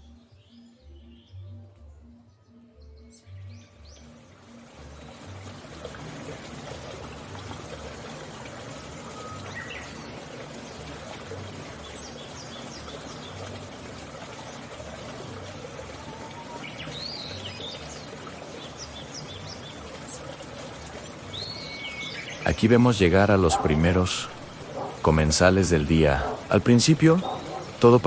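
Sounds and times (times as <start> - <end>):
small birds chirping: 0.0 - 28.0
trickling water hiss: 3.3 - 28.0.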